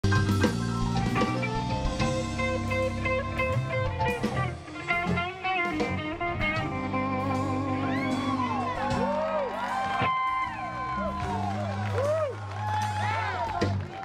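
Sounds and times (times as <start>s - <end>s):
electric guitar bending notes: 0.0s - 12.0s
bass guitar: 0.0s - 14.0s
drums: 0.0s - 14.0s
keyboard: 0.0s - 14.0s.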